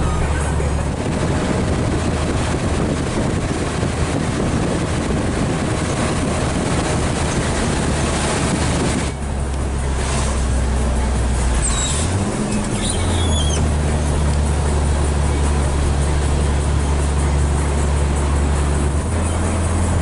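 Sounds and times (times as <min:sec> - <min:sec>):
road noise: 0:00.0 - 0:20.0
truck diesel engine drone: 0:00.0 - 0:20.0.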